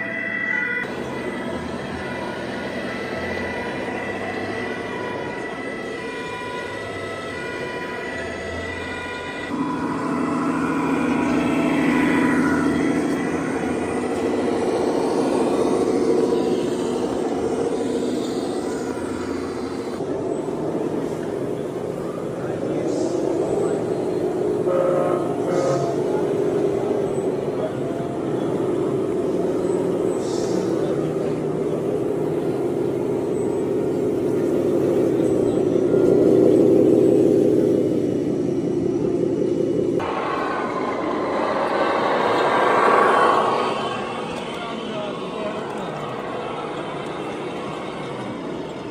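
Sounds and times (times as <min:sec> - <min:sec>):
engine-like drone: 0:00.0 - 0:48.9
hall noise: 0:00.0 - 0:48.9.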